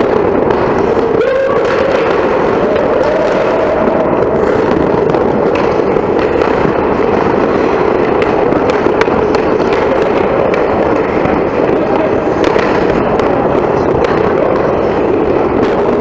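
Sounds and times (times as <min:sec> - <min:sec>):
crackling rush of rink noise: 0:00.0 - 0:16.0.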